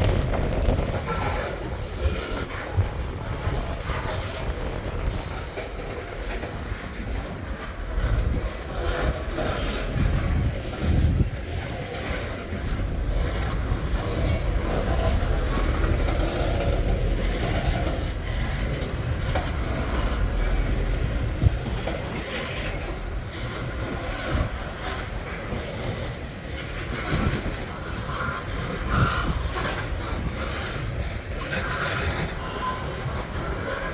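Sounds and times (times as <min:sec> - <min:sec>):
rail clicks: 0:00.0 - 0:33.9
train wheels rumbling on rail: 0:00.0 - 0:33.9.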